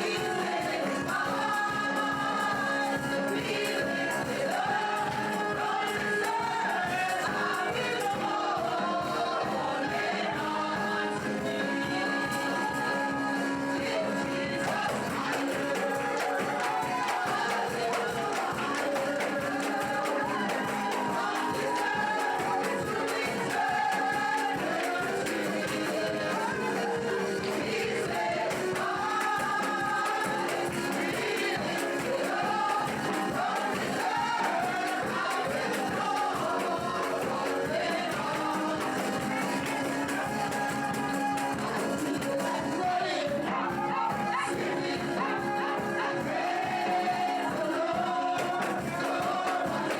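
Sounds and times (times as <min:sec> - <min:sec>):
band playing steady beat: 0:00.0 - 0:49.9
voices singing gospel: 0:00.0 - 0:49.9.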